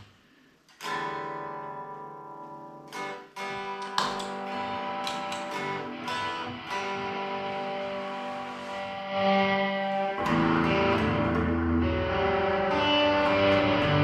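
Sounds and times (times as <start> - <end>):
electric guitar strummed chords: 0.8 - 14.0.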